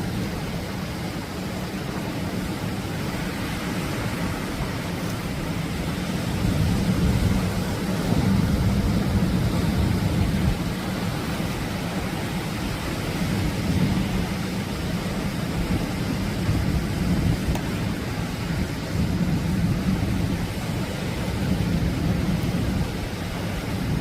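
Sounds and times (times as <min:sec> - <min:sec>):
waves breaking and washing in: 0:00.0 - 0:24.0.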